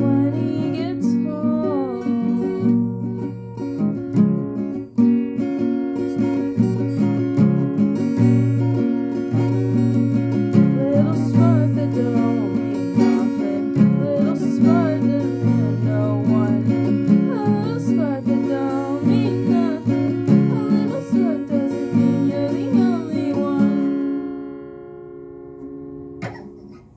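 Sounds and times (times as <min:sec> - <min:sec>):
acoustic guitar strumming chords: 0:00.0 - 0:26.9.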